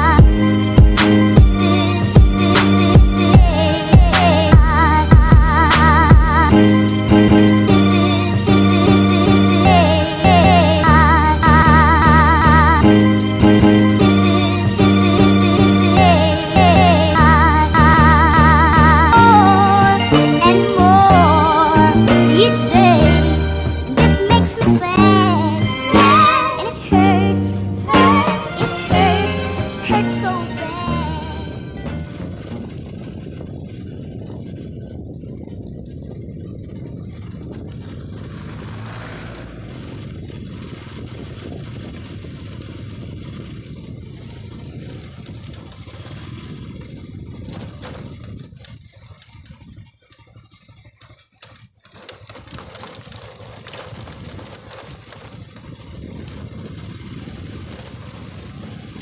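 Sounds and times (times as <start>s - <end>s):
vehicle rumbling on gravel road: 0.0s - 59.0s.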